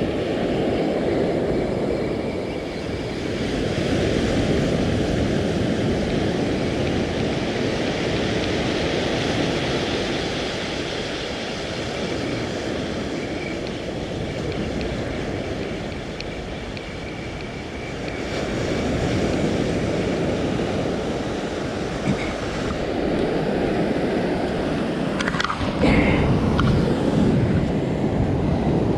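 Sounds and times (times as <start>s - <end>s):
surf washing up a beach: 0.0s - 28.9s.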